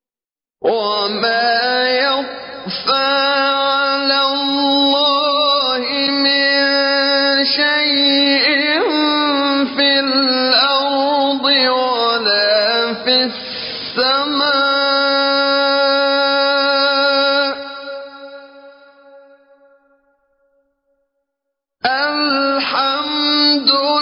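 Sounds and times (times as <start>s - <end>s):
man chanting melodically: 0.6s - 19.6s, 21.8s - 24.0s.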